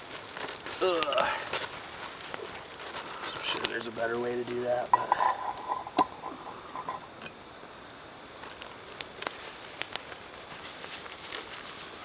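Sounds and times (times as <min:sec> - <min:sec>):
water trickling into plastic bag: 0:00.0 - 0:12.0.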